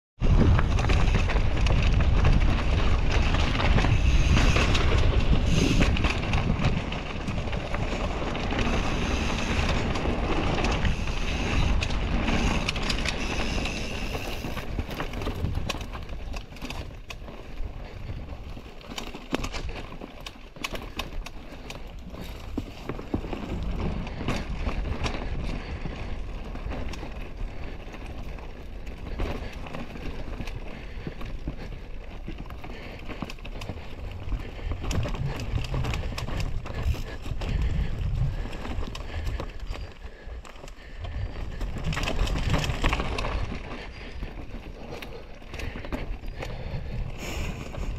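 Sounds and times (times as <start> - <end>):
bike rattling over bumps: 0.2 - 47.9
bike tyres rolling on dirt: 0.2 - 47.9
wind noise on microphone: 0.2 - 47.9.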